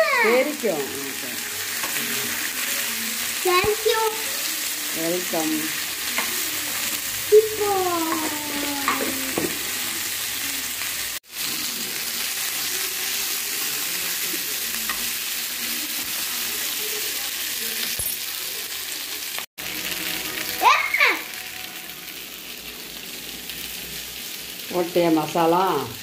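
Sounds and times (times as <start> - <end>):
pods sizzling in hot oil: 0.0 - 26.0.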